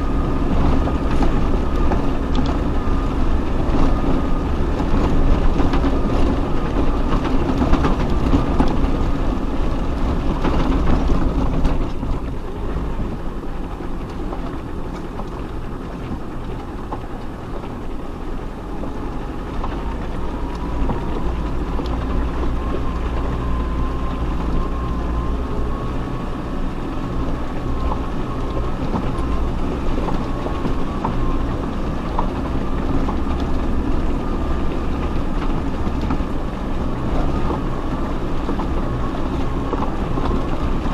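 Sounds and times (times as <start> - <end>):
body and suspension rattles: 0.0 - 40.9
low engine rumble: 0.0 - 40.9.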